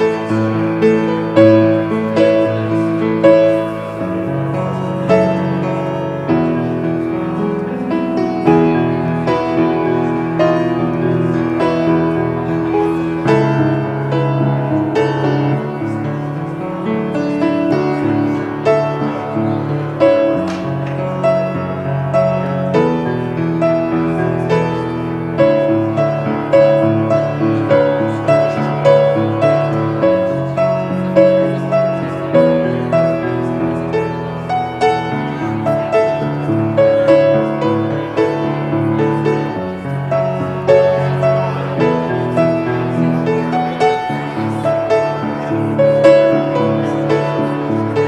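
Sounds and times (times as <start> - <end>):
slow piano chords: 0.0 - 48.0.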